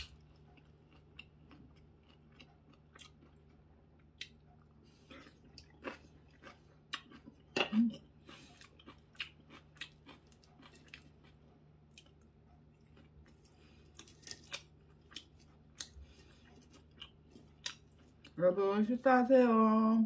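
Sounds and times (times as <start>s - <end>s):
faint chewing and biting: 0.0s - 18.5s.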